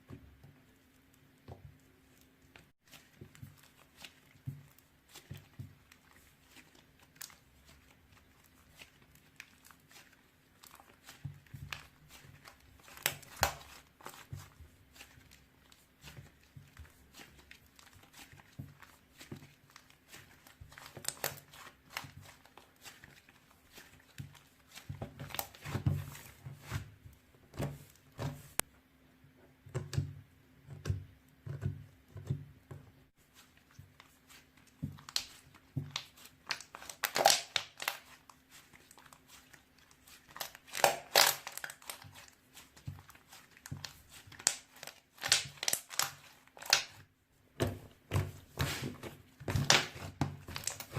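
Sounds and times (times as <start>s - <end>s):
hands squishing slime: 0.0s - 28.7s, 29.6s - 50.9s.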